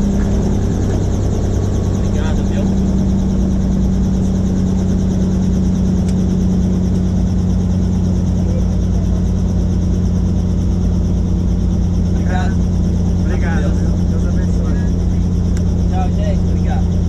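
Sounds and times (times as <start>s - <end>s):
helicopter turbine and rotors: 0.0s - 17.0s.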